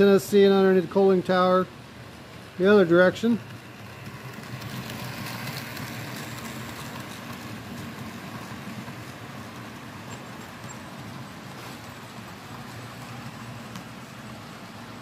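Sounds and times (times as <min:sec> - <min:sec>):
model train rumbling: 0:00.0 - 0:15.0.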